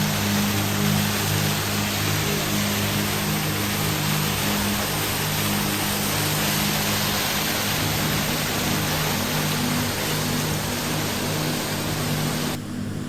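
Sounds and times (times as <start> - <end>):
waterfall roaring: 0.0 - 12.6.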